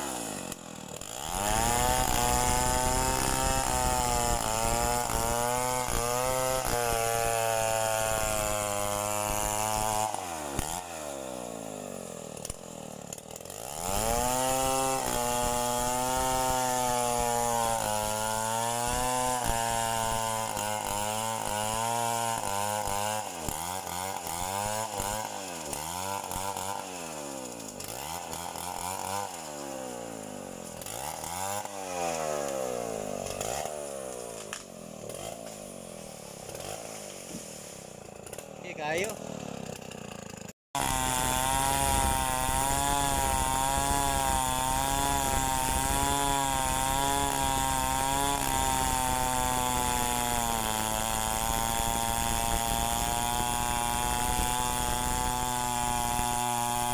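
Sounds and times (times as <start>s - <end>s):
chainsaw engine revving: 0.0s - 56.9s.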